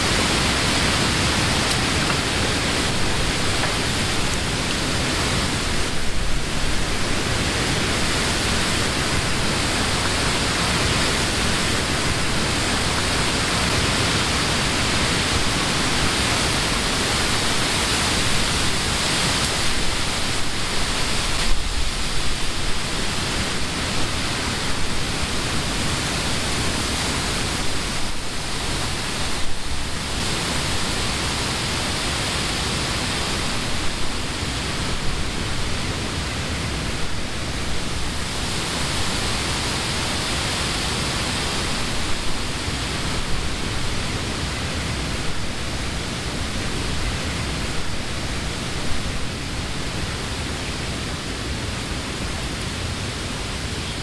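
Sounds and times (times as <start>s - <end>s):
low wind buffets: 0.0s - 54.0s
wind blowing through trees: 0.0s - 54.0s.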